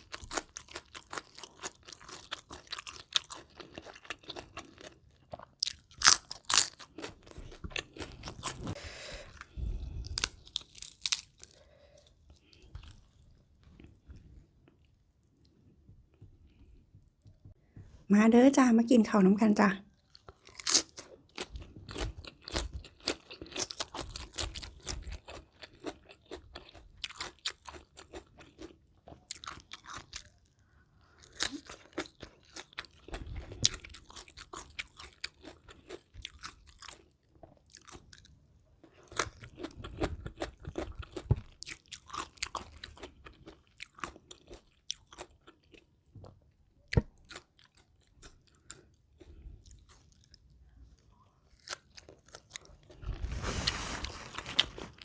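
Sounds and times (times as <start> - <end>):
crunchy chewing of fried chicken: 0.0 - 15.6, 20.0 - 55.0.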